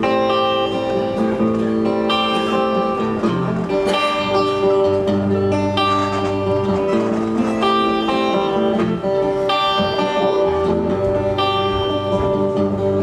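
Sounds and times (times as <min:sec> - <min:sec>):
acoustic guitar strumming: 0:00.0 - 0:13.0
violin melody: 0:00.0 - 0:13.0.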